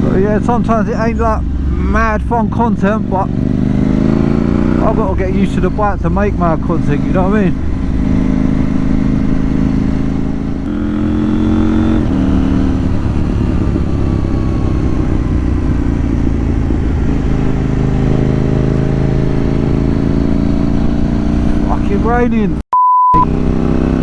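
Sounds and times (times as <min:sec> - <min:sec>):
motorcycle engine revving: 0:00.0 - 0:22.6, 0:23.2 - 0:24.0.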